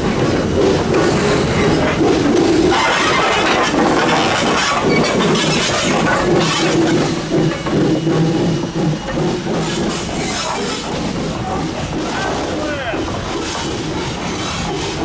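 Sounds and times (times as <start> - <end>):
locomotive exhaust beats: 0.0 - 15.0
steam locomotive working: 0.0 - 15.0.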